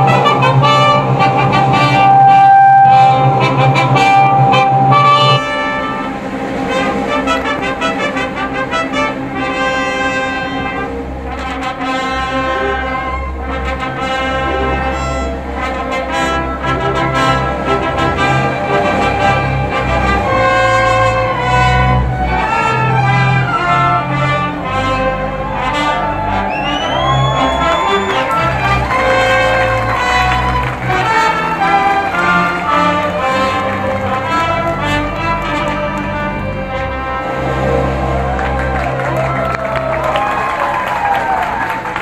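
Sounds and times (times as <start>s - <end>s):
two trumpets playing a duet: 0.0s - 40.6s
orchestra accompanying: 0.0s - 42.0s.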